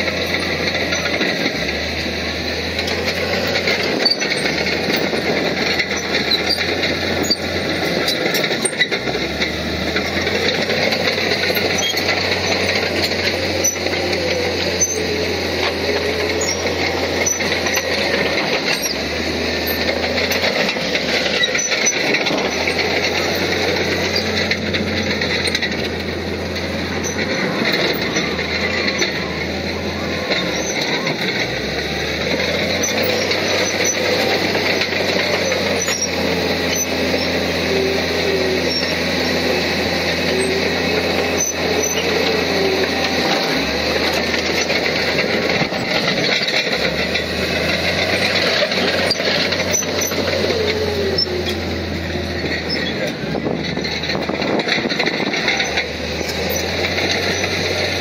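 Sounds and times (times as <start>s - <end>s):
diesel machinery engines under load: 0.0s - 58.0s.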